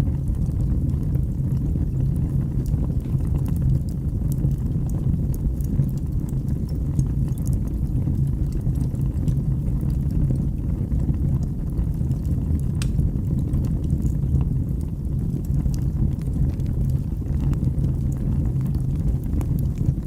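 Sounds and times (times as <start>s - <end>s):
fire crackles and pops: 0.0s - 20.0s
wood fire burning: 0.0s - 20.0s.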